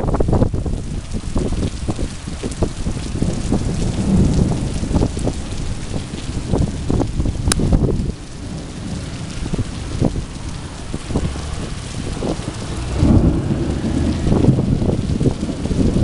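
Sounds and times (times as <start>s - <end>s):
heavy rain pouring: 0.0s - 16.0s
thunder rumbling: 0.0s - 16.0s.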